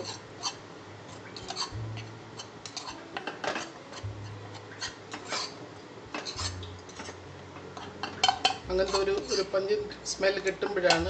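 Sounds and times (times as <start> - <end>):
spoon scraping and tapping pan: 0.0 - 9.5, 10.6 - 11.0.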